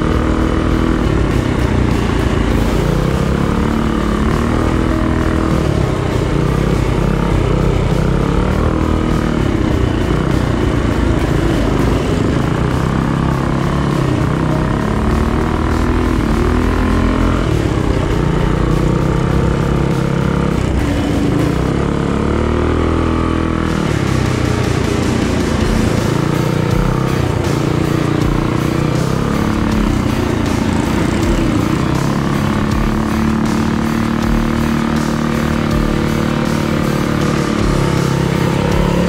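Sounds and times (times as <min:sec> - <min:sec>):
minibike engine revving: 0:00.0 - 0:39.0.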